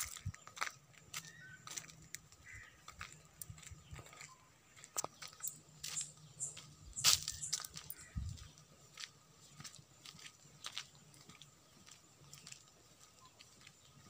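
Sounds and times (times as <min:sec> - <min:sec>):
footsteps on dry leaves: 0:00.0 - 0:14.0.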